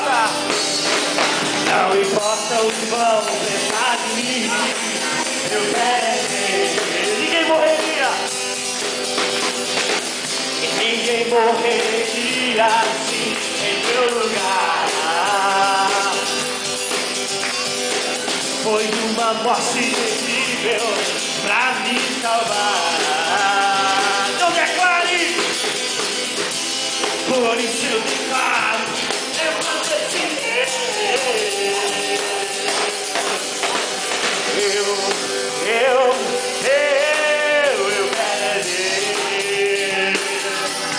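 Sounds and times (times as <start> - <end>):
group singing a worship song: 0.0 - 8.3, 10.6 - 16.5, 19.4 - 24.6, 27.2 - 40.9
acoustic guitar strumming: 0.0 - 40.9.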